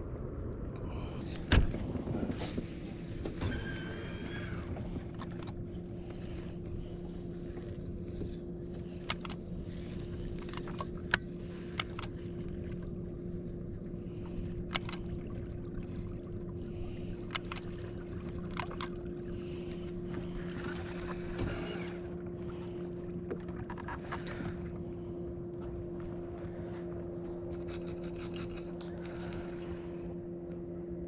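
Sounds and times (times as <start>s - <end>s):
electric boat motor humming: 0.1s - 31.0s.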